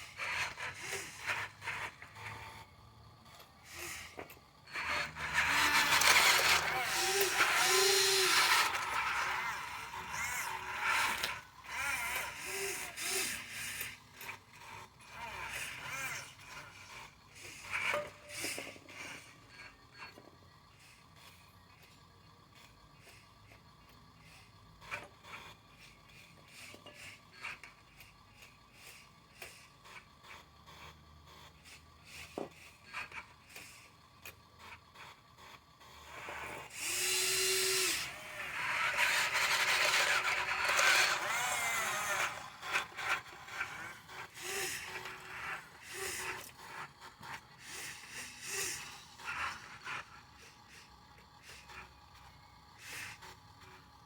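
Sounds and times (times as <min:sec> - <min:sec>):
small electric motor whirring: 0:00.0 - 0:54.0.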